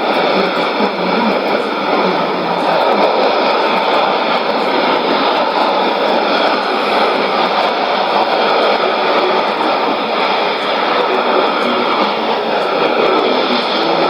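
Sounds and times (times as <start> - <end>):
faint steady radio tones: 0.0 - 14.0
radio rushing noise: 0.0 - 14.0.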